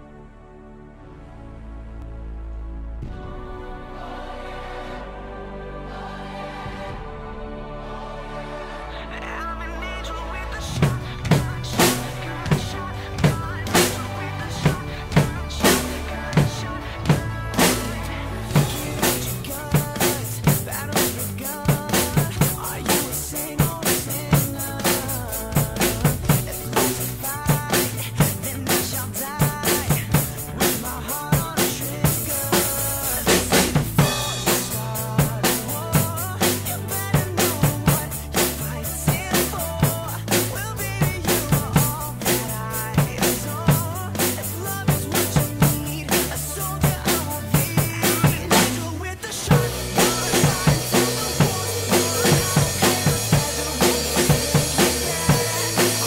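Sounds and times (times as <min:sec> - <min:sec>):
recorded backing track: 0:00.0 - 0:56.0
drum kit playing rock beat: 0:10.8 - 0:56.0.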